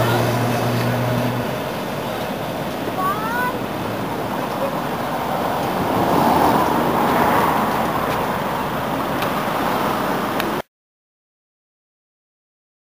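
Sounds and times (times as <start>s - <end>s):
cars passing: 0.0s - 10.7s.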